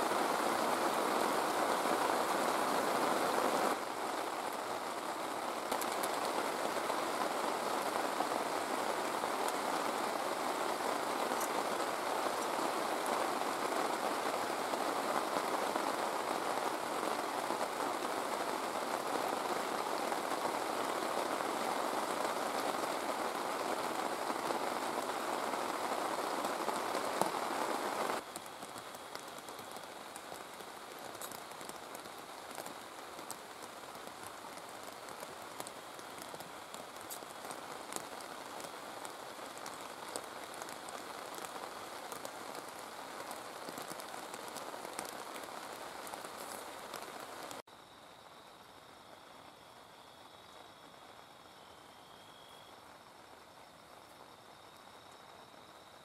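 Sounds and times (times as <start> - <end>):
heavy rain falling: 0.0 - 47.7, 48.3 - 56.0.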